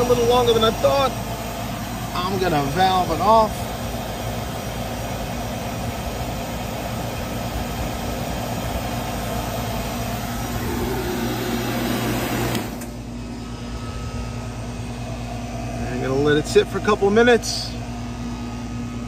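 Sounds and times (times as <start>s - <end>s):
vacuum pump humming: 0.0s - 19.0s.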